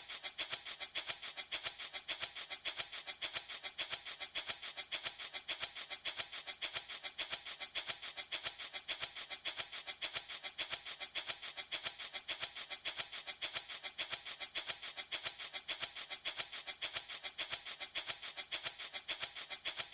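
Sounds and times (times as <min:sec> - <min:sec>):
wooden baby rattle shaken: 0:00.0 - 0:19.9.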